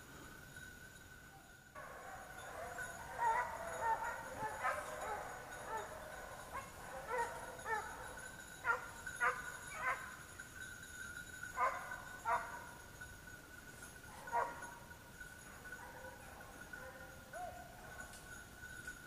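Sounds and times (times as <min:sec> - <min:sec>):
hounds baying: 0:01.3 - 0:18.9.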